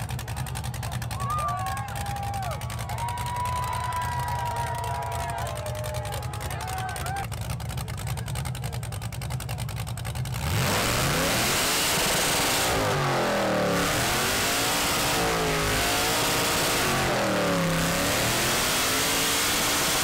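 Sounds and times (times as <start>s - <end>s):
choppy engine idle: 0.0s - 20.0s
truck engine revving: 0.0s - 20.0s.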